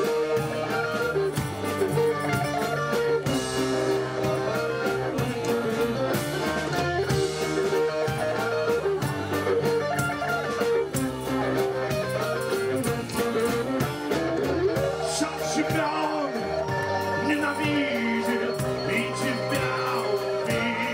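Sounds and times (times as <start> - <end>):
accordion: 0.0 - 20.9
drum kit beat: 0.0 - 20.9
electric guitar: 0.0 - 20.9
upright bass: 0.0 - 20.9.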